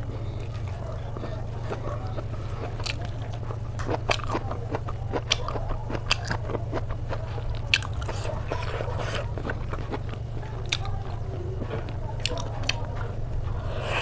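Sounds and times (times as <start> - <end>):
steady low hum: 0.0 - 14.0
person chewing and biting: 0.2 - 12.9.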